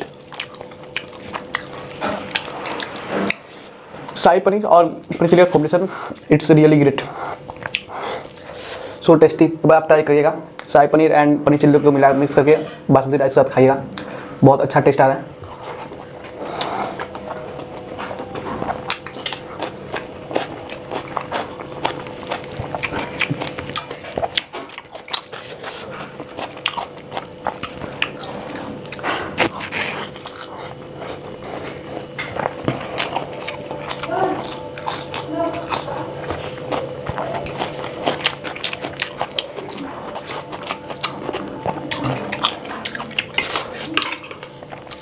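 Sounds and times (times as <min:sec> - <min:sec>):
wet chewing sounds: 0:00.0 - 0:04.2, 0:05.0 - 0:09.1, 0:10.4 - 0:10.7, 0:15.4 - 0:45.0
faint steady hum: 0:00.0 - 0:45.0.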